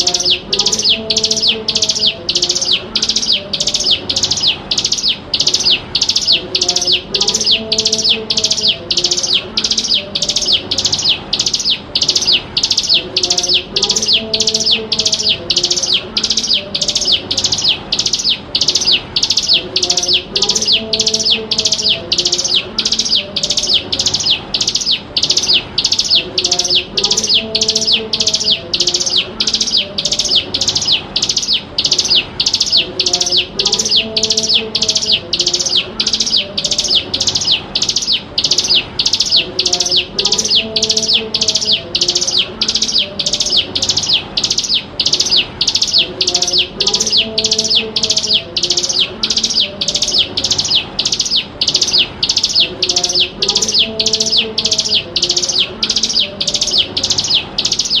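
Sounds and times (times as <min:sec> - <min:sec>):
bird calling high sharp notes: 0:00.0 - 0:58.0.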